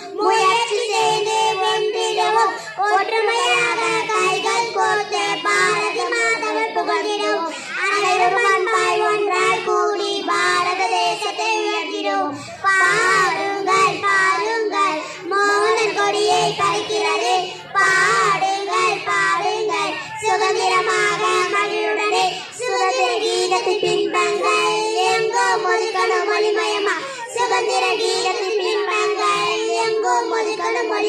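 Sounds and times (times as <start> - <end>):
girls singing: 0.0 - 31.0.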